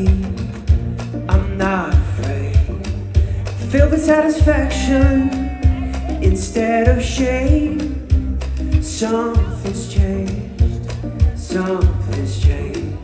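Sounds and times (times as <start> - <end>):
live pop band playing: 0.0 - 13.0
kick drum beat: 2.0 - 12.7.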